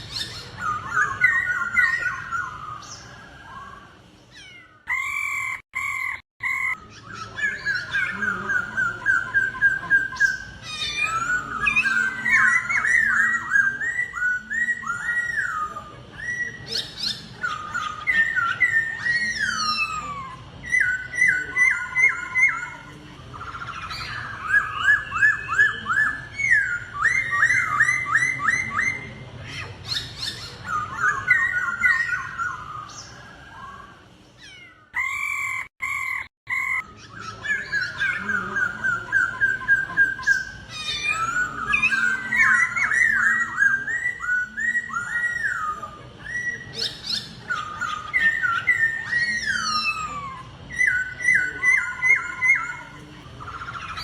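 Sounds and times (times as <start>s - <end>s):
bird singing whistled notes: 0.0s - 3.8s, 4.4s - 29.2s, 35.0s - 54.0s.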